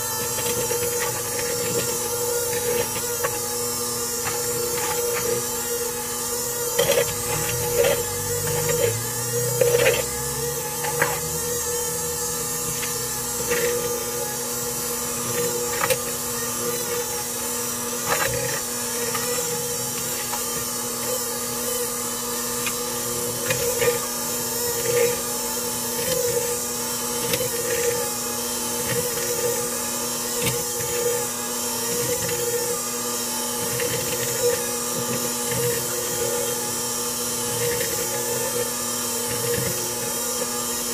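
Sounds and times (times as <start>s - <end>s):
hand mixer beating dough: 0.0s - 40.9s.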